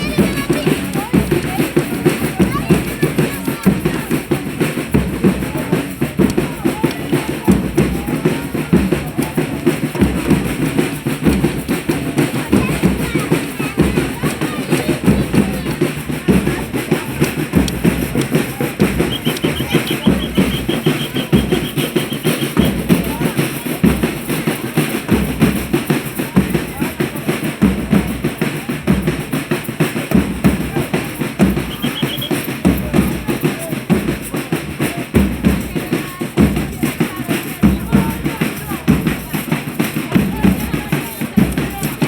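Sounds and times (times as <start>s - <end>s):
drums beating steady rhythm: 0.0s - 42.0s
folk group playing: 0.0s - 42.0s.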